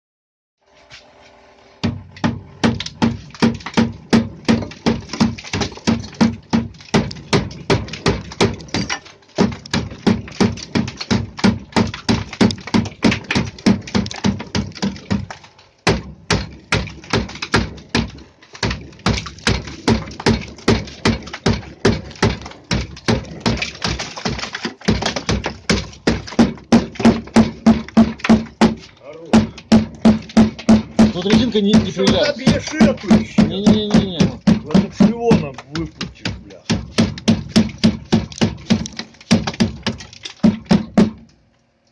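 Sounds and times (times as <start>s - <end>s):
ice being knocked and chipped: 2.2s - 41.1s.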